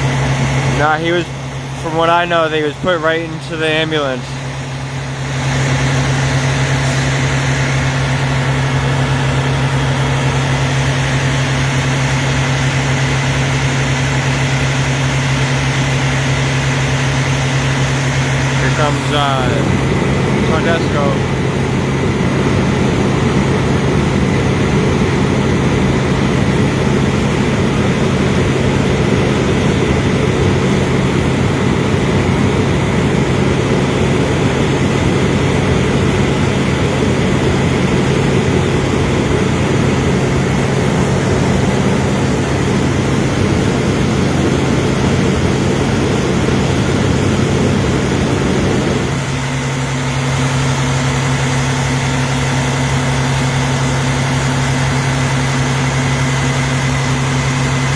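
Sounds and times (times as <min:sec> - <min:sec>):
large vehicle engine idling: 0:00.0 - 0:57.9.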